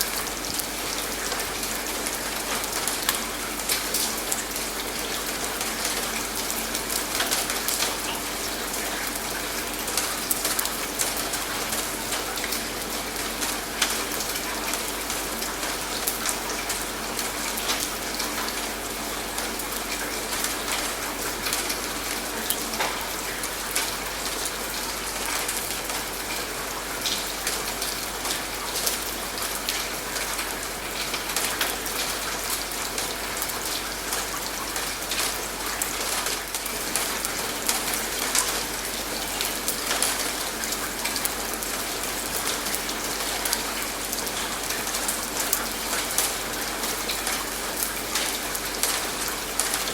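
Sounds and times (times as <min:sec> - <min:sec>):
rain drops pattering: 0:00.0 - 0:49.9.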